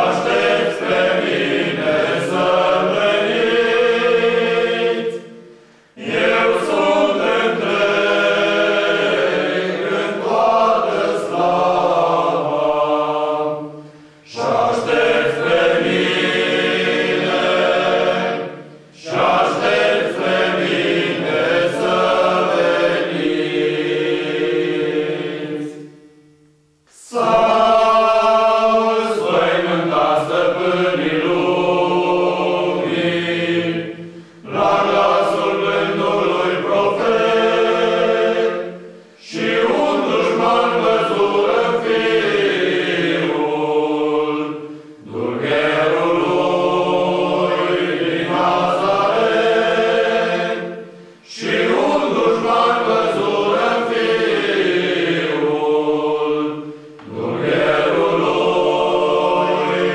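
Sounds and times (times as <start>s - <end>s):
men's choir singing a cappella: 0.0s - 26.2s, 26.9s - 59.9s.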